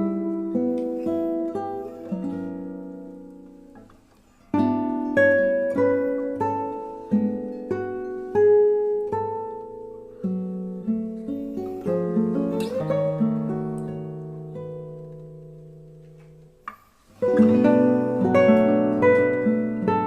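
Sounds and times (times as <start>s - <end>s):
plucked string music: 0.0s - 20.0s.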